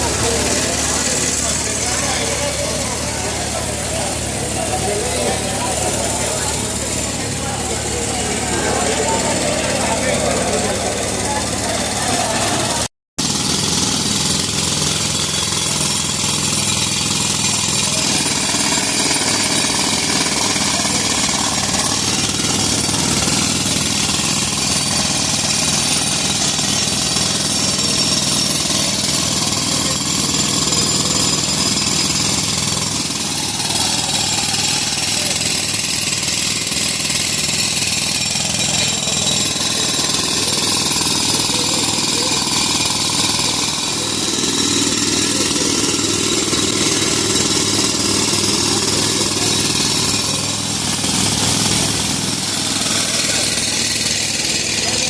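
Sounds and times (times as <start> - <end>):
engine running: 0.0 - 55.0
jackhammer hammering: 0.0 - 55.0.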